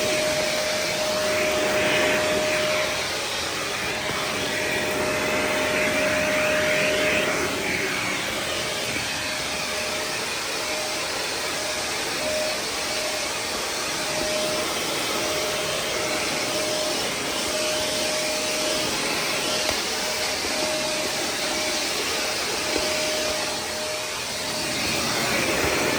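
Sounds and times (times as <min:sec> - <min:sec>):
thin whine: 0:00.0 - 0:25.9
vacuum cleaner running: 0:00.0 - 0:25.9.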